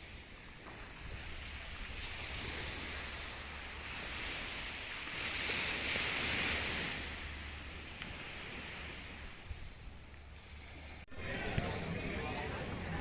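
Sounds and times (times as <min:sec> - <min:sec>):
sea waves washing in: 0:00.0 - 0:13.0.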